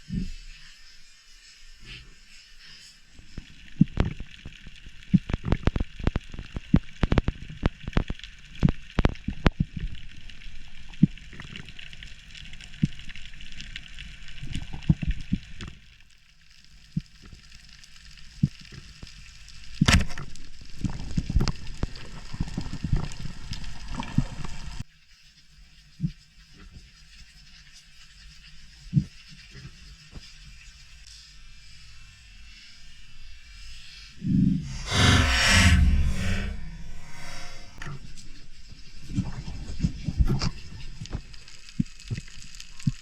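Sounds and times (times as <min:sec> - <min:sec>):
underwater crackling hiss: 0:00.0 - 0:35.0.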